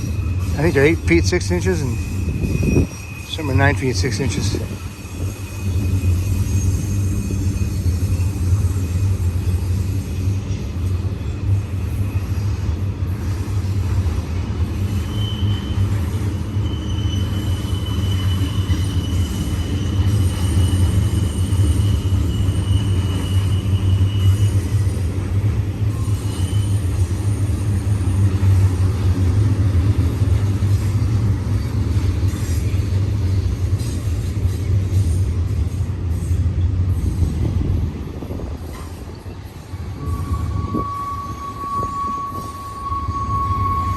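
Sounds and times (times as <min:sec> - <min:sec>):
high wheel squeal: 0:00.0 - 0:35.1, 0:39.1 - 0:43.9
train wheels rumbling on rail: 0:00.0 - 0:43.9.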